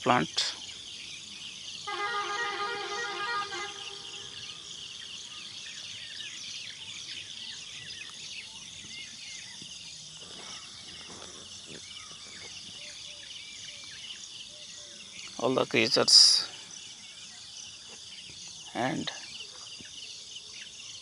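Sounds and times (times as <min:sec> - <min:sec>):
crickets and insects chirping: 0:00.0 - 0:21.0.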